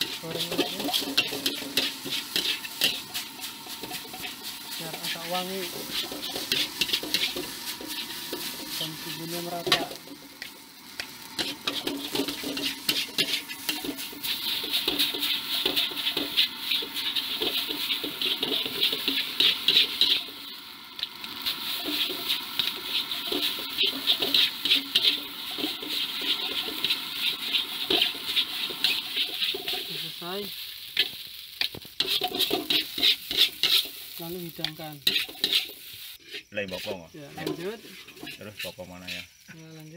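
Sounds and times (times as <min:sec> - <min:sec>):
metal spatula scraping wok: 0:00.0 - 0:39.4
food sizzling: 0:00.0 - 0:39.9.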